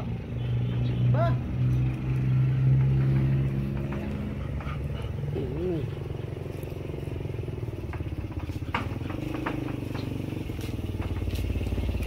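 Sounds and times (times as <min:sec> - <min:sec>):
small engine running: 0:01.6 - 0:12.0.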